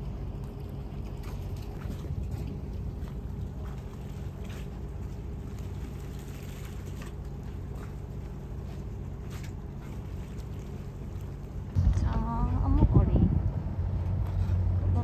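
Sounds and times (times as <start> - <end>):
low hum and rumble: 0.0 - 15.0
water lapping against boat hull: 0.0 - 15.0.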